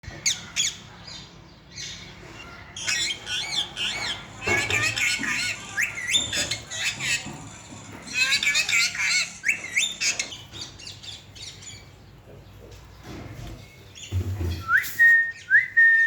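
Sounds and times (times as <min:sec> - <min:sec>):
baby parakeets squawking and chirping: 0:00.0 - 0:14.5.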